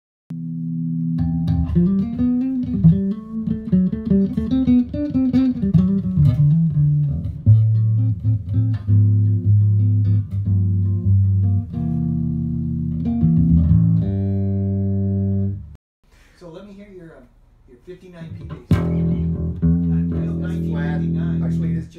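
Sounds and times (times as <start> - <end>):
electric bass guitar notes: 0.3 - 15.8, 18.3 - 21.9.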